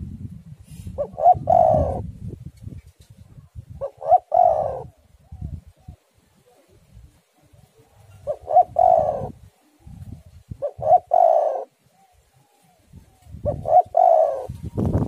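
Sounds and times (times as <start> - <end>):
dove cooing: 1.0 - 2.1, 3.7 - 15.0.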